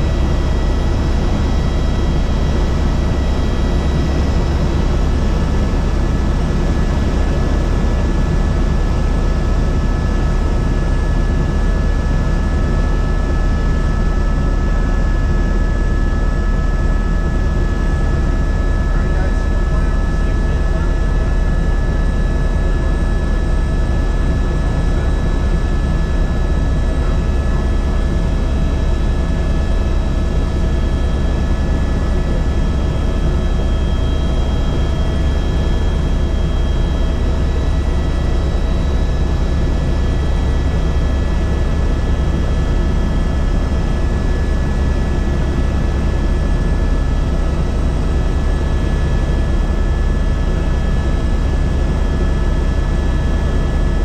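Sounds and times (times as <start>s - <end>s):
helicopter droning: 0.0s - 54.0s.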